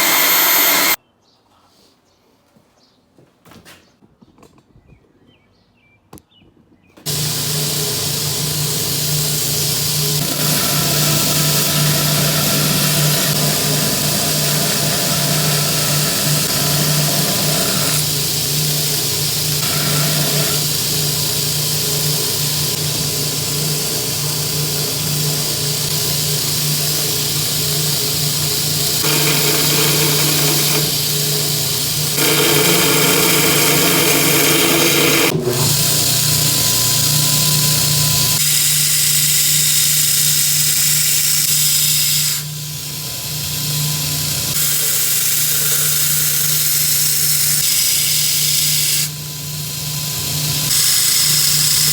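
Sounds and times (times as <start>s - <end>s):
electric power tool humming: 0.0s - 1.0s, 7.1s - 51.9s.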